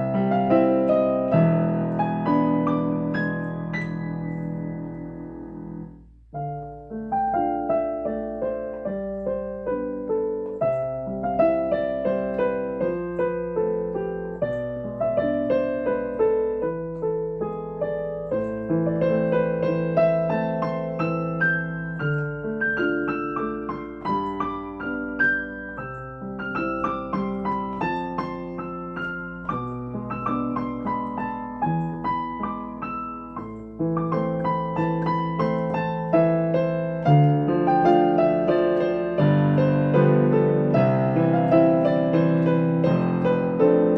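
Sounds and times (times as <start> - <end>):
solo piano melody: 0.0 - 43.9.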